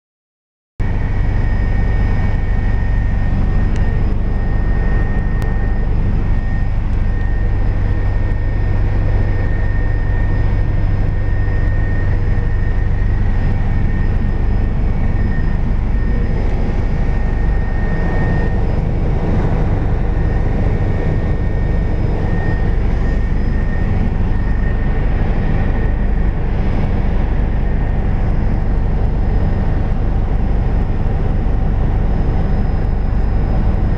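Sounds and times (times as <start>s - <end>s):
helicopter engine and rotor: 0.8s - 33.9s.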